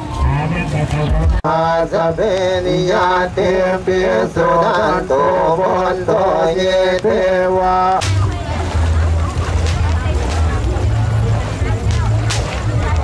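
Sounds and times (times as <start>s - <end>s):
melodic chanting: 0.0s - 13.0s.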